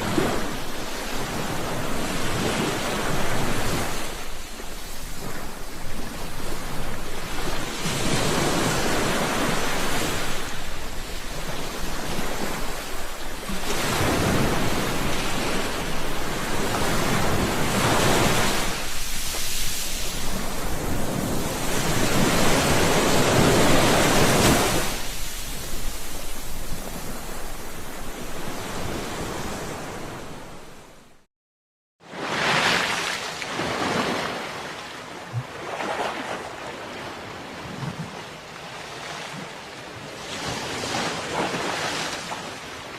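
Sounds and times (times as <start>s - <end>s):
sea waves washing on shore: 0.0s - 31.2s, 32.1s - 42.9s.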